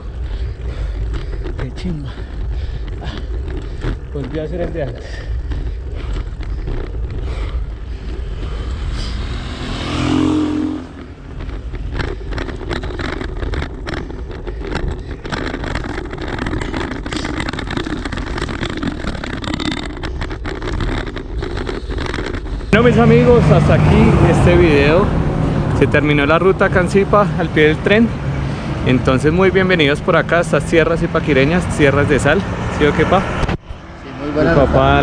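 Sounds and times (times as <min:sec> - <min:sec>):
low traffic rumble: 0:00.0 - 0:35.0
motor vehicle passing: 0:00.0 - 0:35.0.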